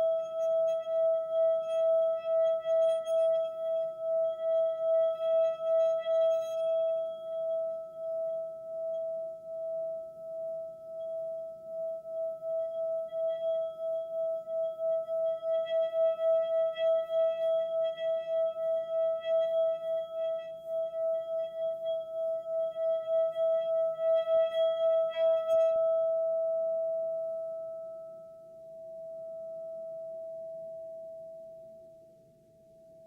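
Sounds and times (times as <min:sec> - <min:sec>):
singing bowl ringing tone: 0:00.0 - 0:33.0.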